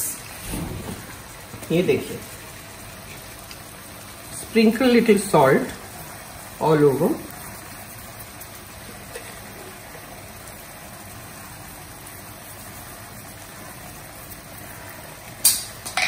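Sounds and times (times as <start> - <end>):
slices frying in oil: 0.0 - 16.0.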